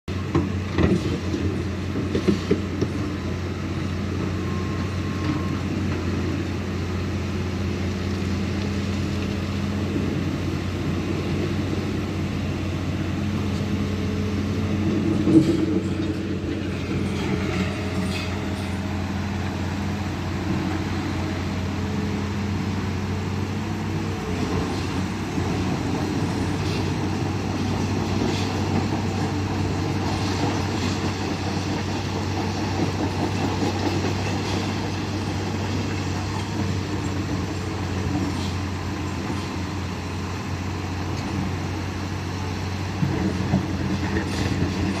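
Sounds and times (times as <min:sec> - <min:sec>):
excavator diesel engine running: 0:00.1 - 0:45.0.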